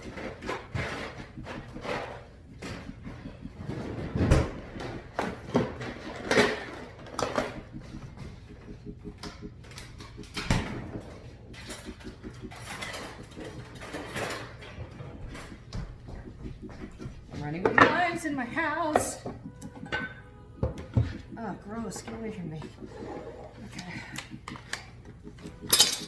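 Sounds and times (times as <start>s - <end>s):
dishes and utensils knocking: 0.0s - 26.0s.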